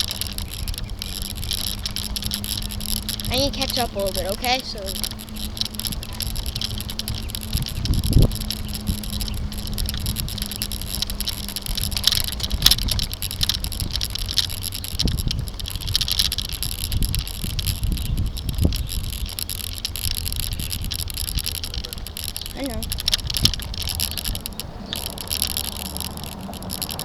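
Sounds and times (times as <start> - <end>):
bicycle knocking over bumps: 0.0 - 27.0
road vibration rumble: 0.0 - 27.0
wind: 0.0 - 27.0.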